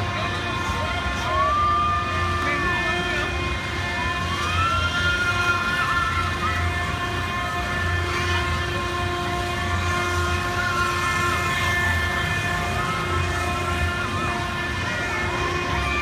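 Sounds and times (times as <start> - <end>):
fairground ride mechanical hum: 0.0 - 16.0.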